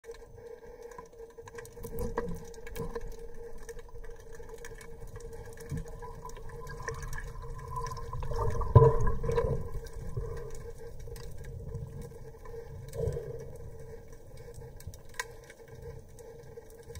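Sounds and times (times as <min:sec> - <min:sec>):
faint clicks: 0:00.0 - 0:16.9
muffled underwater water movement: 0:00.0 - 0:16.9.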